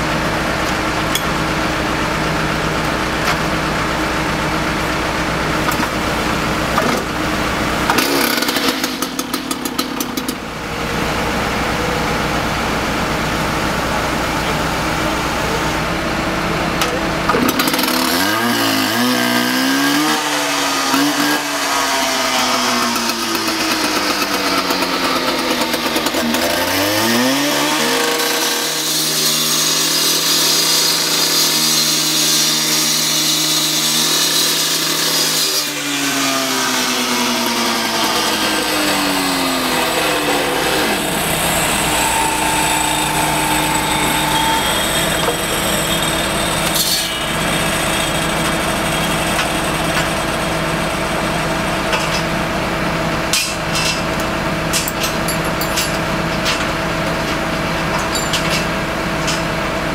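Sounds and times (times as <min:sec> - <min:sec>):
construction machinery engines: 0:00.0 - 0:59.9.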